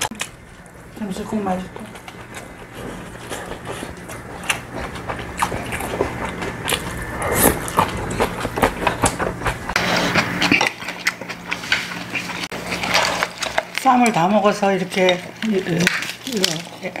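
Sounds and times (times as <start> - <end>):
chewing with smacking and crunching: 0.0 - 17.0.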